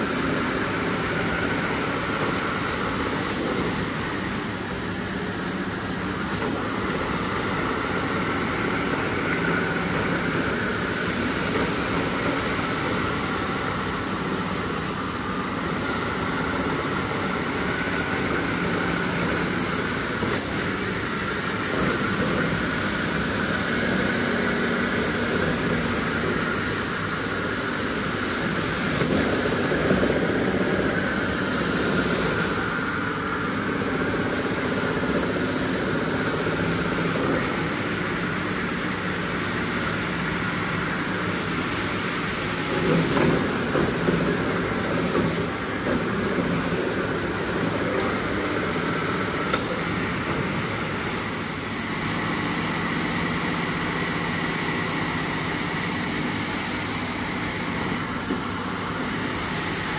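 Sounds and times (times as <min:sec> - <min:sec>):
rug cleaning machine running: 0:00.0 - 0:59.9.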